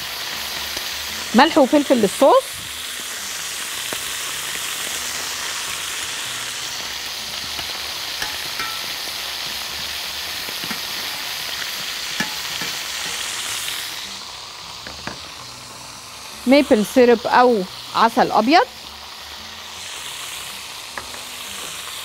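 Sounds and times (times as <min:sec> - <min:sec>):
chicken sizzling in frying pan: 0:00.0 - 0:22.0.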